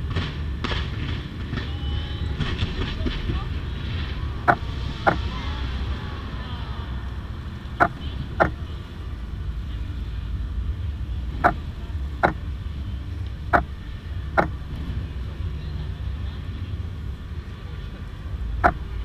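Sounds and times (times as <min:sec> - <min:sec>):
low rumble of fireworks: 0:00.0 - 0:19.0.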